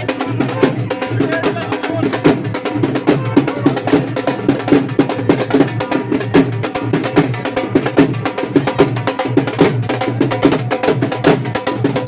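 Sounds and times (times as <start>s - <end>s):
fast dense drumming music: 0.0s - 12.0s.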